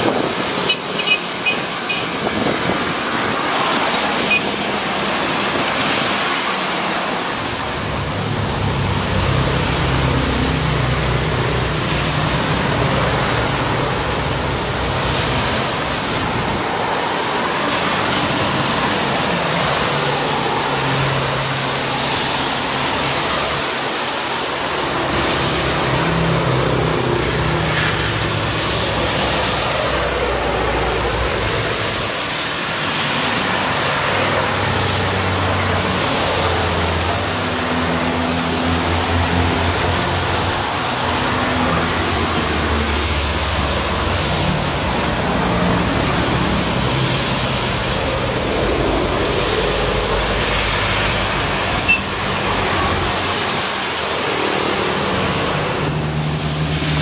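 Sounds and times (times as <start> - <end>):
heavy vehicle engines humming: 0.0 - 57.0
tyre and road noise: 0.0 - 57.0.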